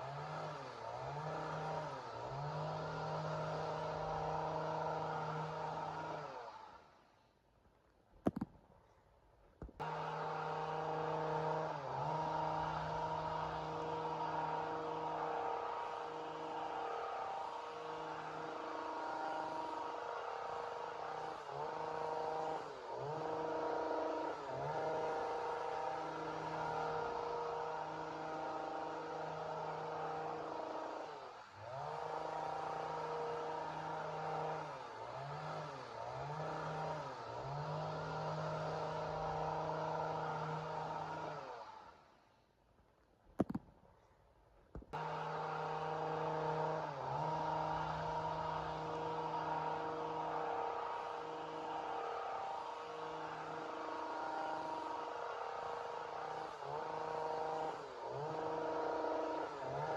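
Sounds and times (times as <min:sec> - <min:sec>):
chainsaw running at high revs: 0:00.0 - 0:07.1, 0:09.8 - 0:42.2, 0:45.0 - 0:59.9.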